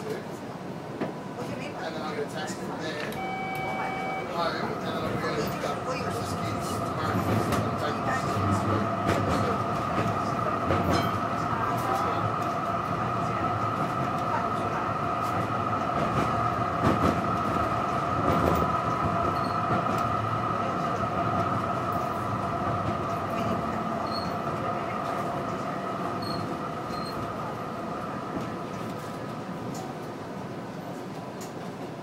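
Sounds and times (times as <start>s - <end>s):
tram running: 0.0s - 32.0s.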